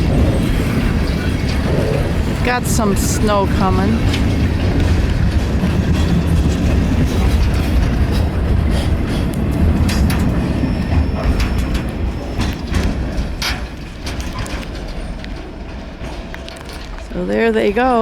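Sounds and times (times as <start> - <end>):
train rumbling past: 0.0 - 18.0
wheels clicking and squeaking on rails: 0.0 - 18.0.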